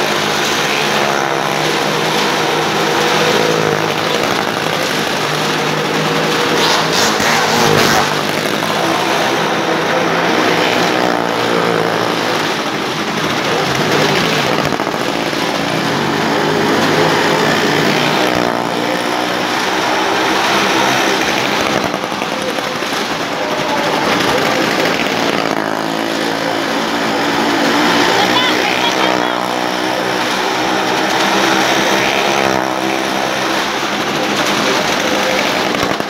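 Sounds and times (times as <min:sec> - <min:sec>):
motorcycle engine running hard: 0:00.0 - 0:36.0.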